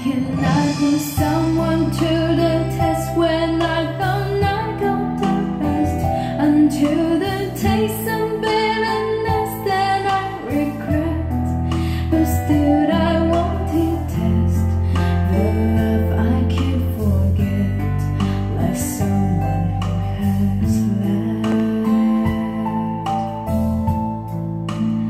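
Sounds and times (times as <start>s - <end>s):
song through speakers: 0.0s - 25.0s.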